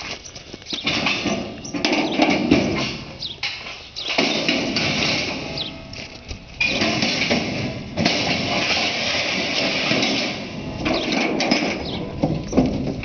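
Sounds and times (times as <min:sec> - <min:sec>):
metal mesh ramp scraping and rattling: 0:00.8 - 0:13.0.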